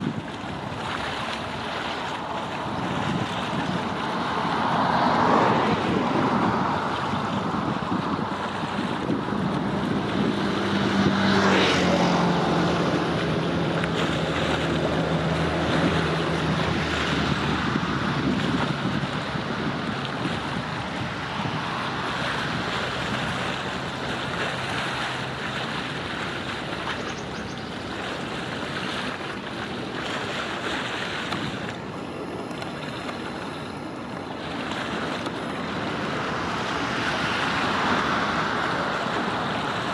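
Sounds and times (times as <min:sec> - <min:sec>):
water waves: 0:00.0 - 0:39.9
wind buffeting microphone: 0:00.0 - 0:39.9.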